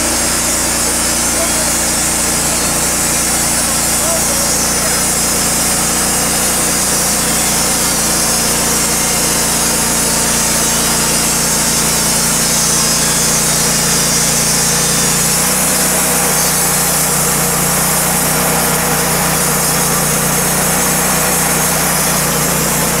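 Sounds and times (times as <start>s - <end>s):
band blade sawing wood: 0.0s - 23.0s
sawmill engine under load: 0.0s - 23.0s.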